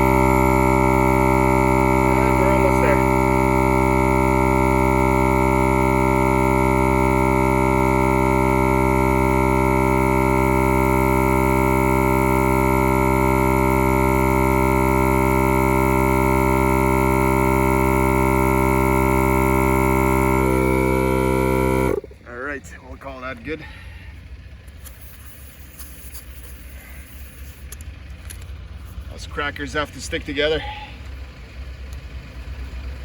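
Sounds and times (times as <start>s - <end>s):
air compressor humming: 0.0s - 33.0s.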